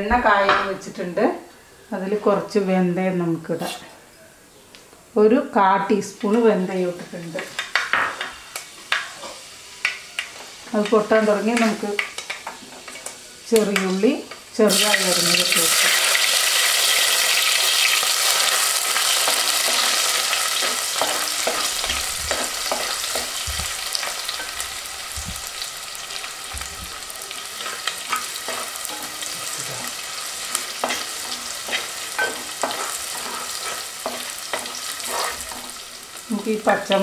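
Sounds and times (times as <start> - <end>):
shallots sizzling in hot oil: 5.5 - 37.0.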